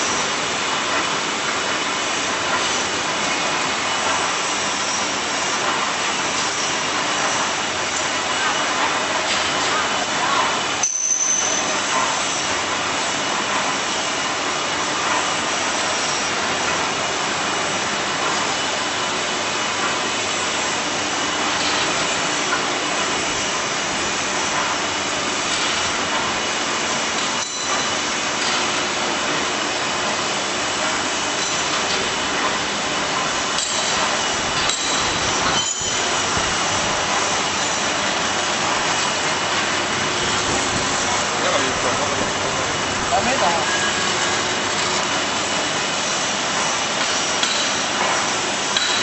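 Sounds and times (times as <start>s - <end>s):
peeling machine running: 0.1s - 49.0s.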